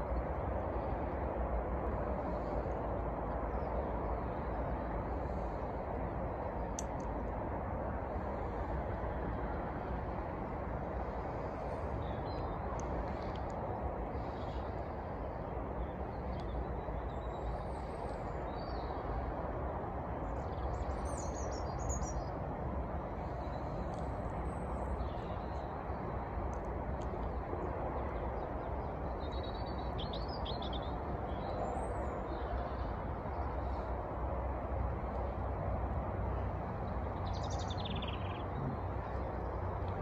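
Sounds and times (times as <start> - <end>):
low background noise: 0.0 - 40.0.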